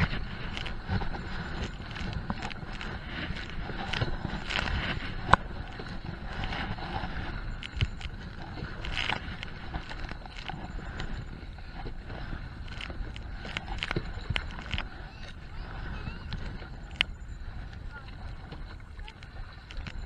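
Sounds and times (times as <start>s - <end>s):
paddle dipping in water: 0.0s - 20.0s
water slapping against kayak: 0.0s - 20.0s.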